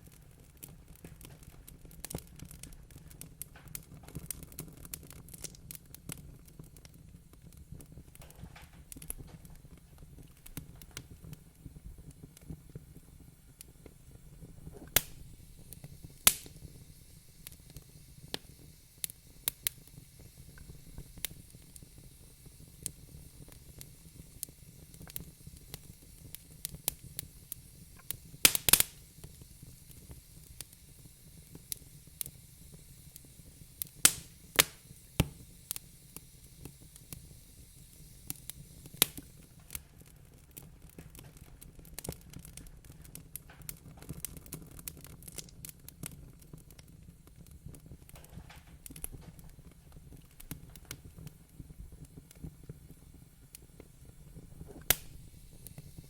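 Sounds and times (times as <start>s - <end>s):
fire popping and snapping: 0.0s - 56.0s
wood fire crackling: 0.0s - 56.0s.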